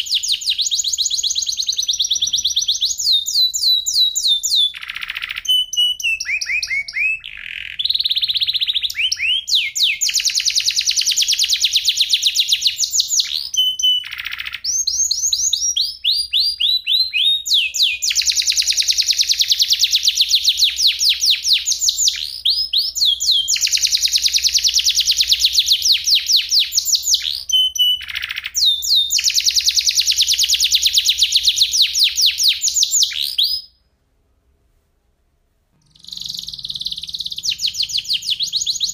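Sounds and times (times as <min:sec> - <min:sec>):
canary singing trills: 0:00.0 - 0:33.8, 0:35.8 - 0:38.9.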